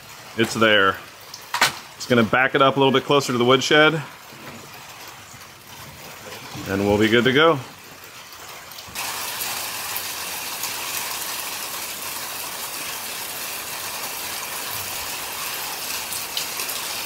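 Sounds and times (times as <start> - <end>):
rain falling on a pond: 0.0 - 17.0.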